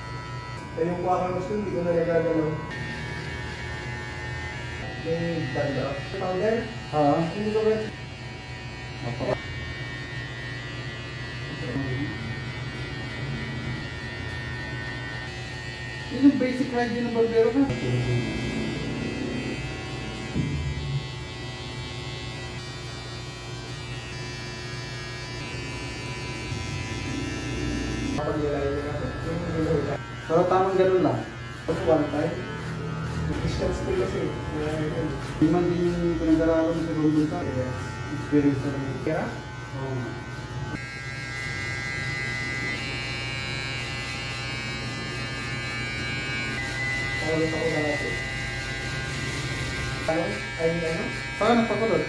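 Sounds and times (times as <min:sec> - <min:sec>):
electric hair trimmer buzzing: 0:00.0 - 0:52.0.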